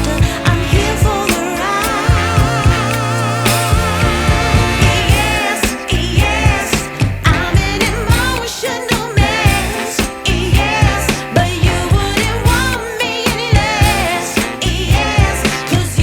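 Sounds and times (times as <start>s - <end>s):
pop song drum beat: 0.0s - 16.0s
singing voice with vibrato: 0.0s - 16.0s.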